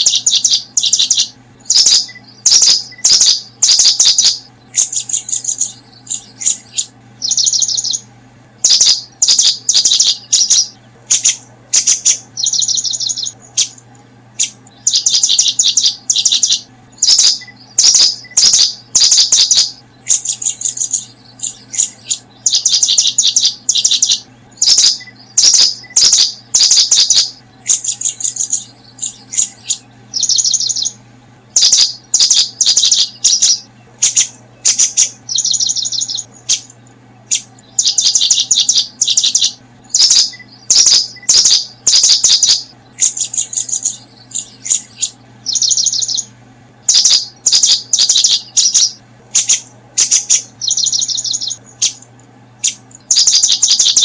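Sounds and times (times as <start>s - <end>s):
faint low hum: 0.0s - 54.0s
small songbird chirping: 0.0s - 54.0s.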